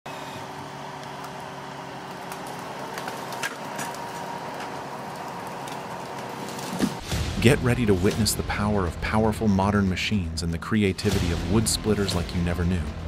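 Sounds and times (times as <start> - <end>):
machine engine humming: 0.1 - 13.0.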